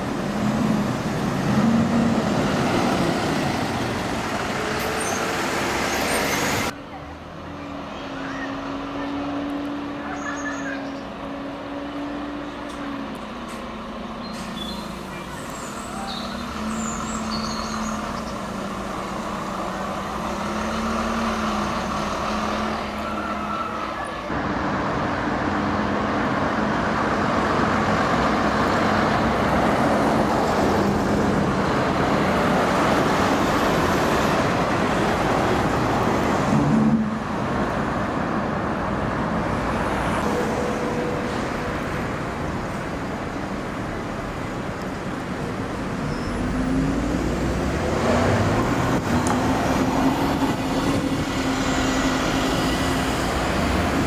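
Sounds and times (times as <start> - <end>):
bus diesel engine pulling away: 0.0 - 54.0
bus engine driving past: 0.0 - 54.0.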